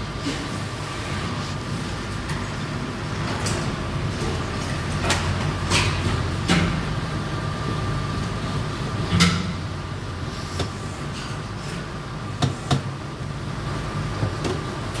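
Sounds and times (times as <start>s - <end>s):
factory machinery hum: 0.0s - 15.0s.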